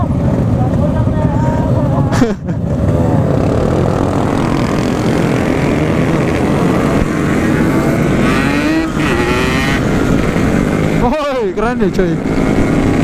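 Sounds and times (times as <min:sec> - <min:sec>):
two-stroke motorcycle engine: 0:00.0 - 0:13.0.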